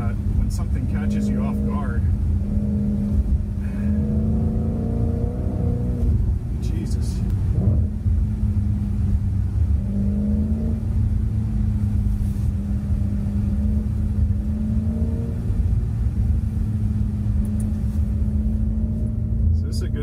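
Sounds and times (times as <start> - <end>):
car engine drone: 0.0 - 20.0
low road rumble: 0.0 - 20.0.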